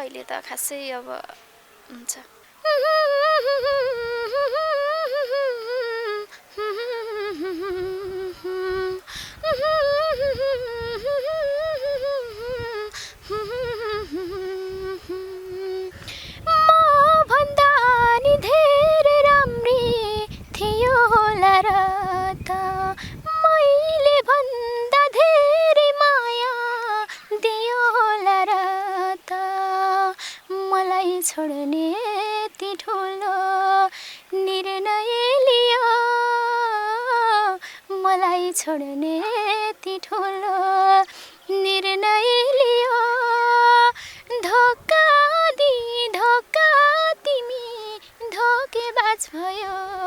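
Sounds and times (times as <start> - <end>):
woman singing unaccompanied: 0.0 - 50.0.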